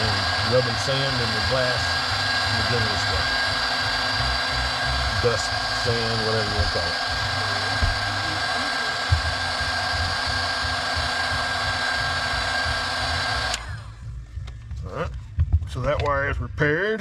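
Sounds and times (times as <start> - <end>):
heat gun blowing with whine: 0.0 - 14.6
fan winding down: 0.0 - 15.1.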